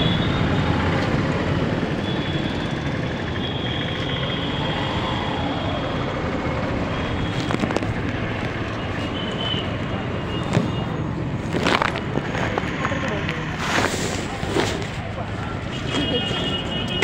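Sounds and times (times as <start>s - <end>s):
vehicles rumbling by: 0.0s - 17.0s.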